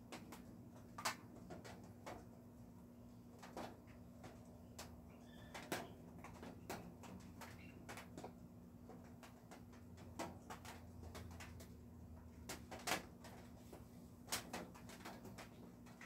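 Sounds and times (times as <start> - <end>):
faint clicks and taps: 0.0 - 2.5, 3.3 - 16.0.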